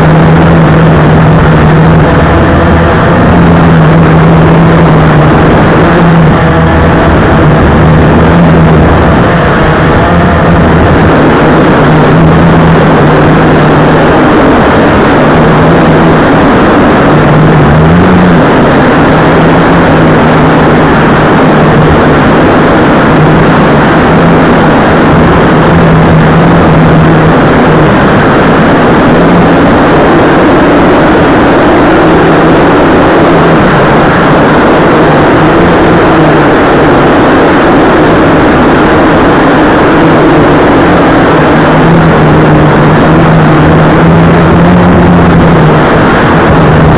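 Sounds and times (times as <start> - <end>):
quadcopter motors droning: 0.0 - 46.9.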